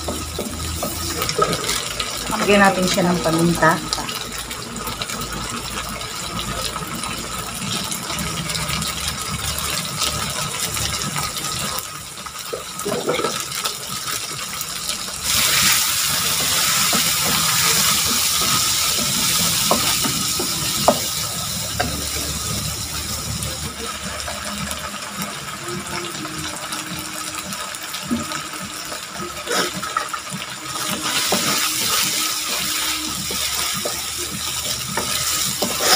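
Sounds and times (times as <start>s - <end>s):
food sizzling in a wok: 0.0s - 35.9s.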